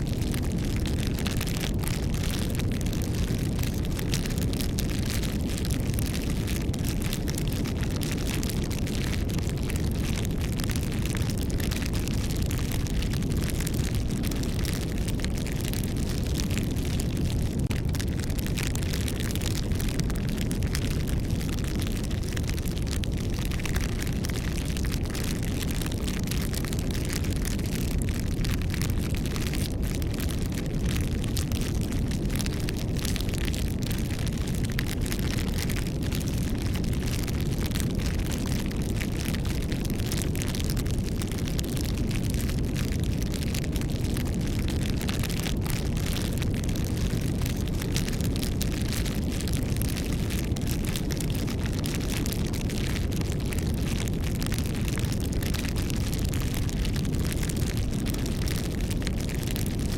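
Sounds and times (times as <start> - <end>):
bonfire crackling: 0.0 - 59.9.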